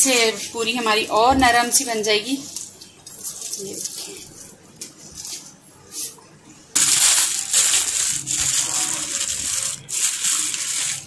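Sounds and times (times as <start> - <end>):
paper crinkling: 0.0 - 6.2, 6.8 - 11.0.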